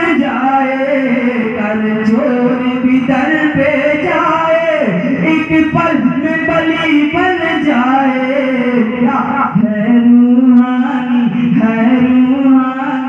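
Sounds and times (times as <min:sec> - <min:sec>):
man singing through a microphone: 0:00.0 - 0:13.0.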